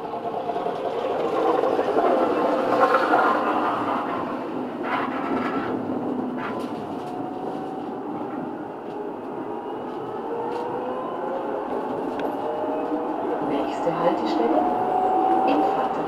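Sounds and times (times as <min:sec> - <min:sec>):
tram motor whine rising: 0:00.0 - 0:16.0.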